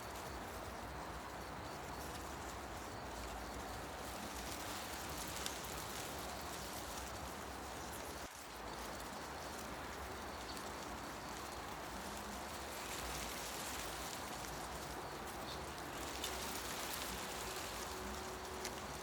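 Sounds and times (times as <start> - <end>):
faint ticks: 0.0 - 19.0
leaves rustling in wind: 0.0 - 19.0.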